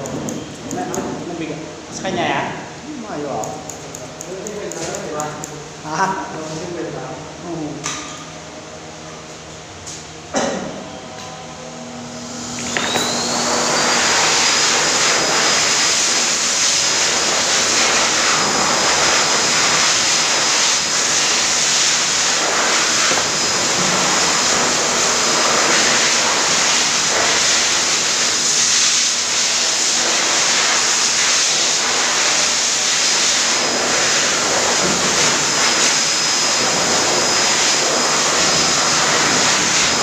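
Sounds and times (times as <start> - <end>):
blow dryer motor whine: 0.0 - 40.0.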